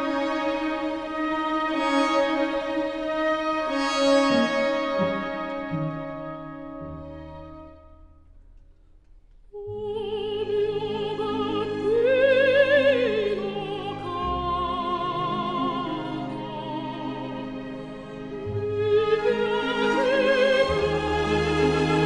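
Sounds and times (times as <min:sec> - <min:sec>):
orchestral accompaniment: 0:00.0 - 0:08.5, 0:09.9 - 0:22.0.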